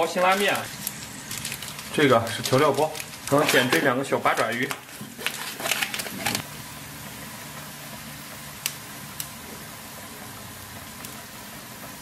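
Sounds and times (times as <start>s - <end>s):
broth simmering: 0.0s - 12.0s
electric cooktop humming: 0.0s - 12.0s.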